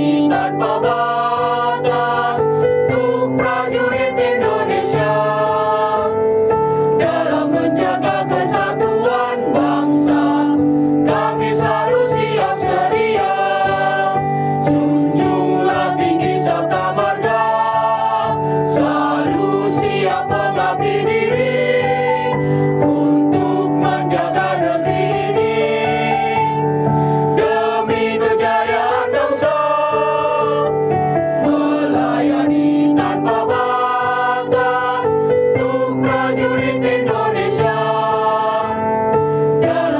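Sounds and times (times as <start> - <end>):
choir singing a march: 0.0 - 6.2, 7.0 - 26.6, 27.4 - 30.7, 31.4 - 38.8, 39.6 - 39.9
electronic keyboard: 0.0 - 39.9.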